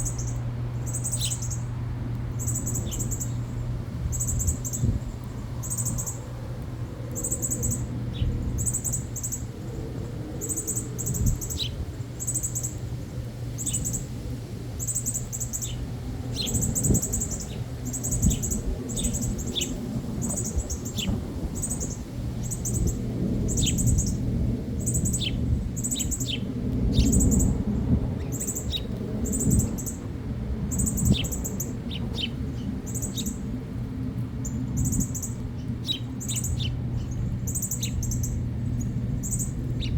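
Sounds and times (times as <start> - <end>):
small birds chirping: 0.0 - 6.3, 7.1 - 9.5, 10.4 - 12.8, 13.6 - 14.2, 14.8 - 24.2, 24.8 - 27.5, 30.7 - 33.4, 34.4 - 39.9
low hum and rumble: 0.0 - 39.9.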